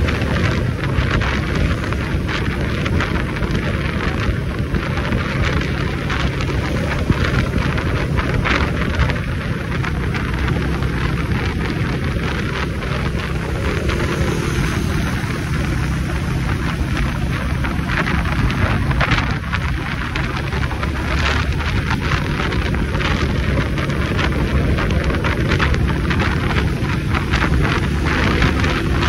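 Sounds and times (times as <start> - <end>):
motorcycle engine: 0.0 - 29.0
road noise: 0.0 - 29.0
wind buffeting microphone: 0.0 - 29.0.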